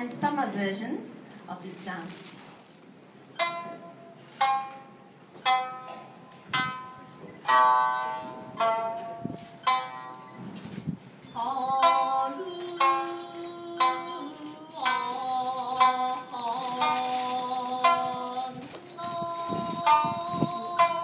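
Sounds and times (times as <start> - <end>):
shamisen plucked notes: 3.2 - 21.0.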